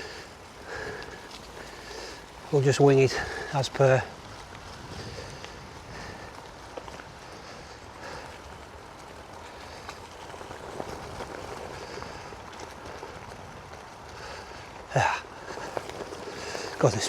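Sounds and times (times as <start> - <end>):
bicycle tyres rolling over leaves: 0.0 - 17.0
bike ticking and rattling: 0.0 - 17.0.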